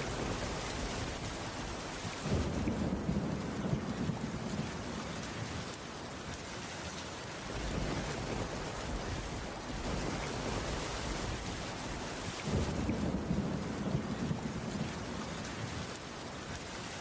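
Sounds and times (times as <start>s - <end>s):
distant thunder rumble: 0.0s - 5.8s, 7.4s - 16.0s
steady rainfall: 0.0s - 17.0s.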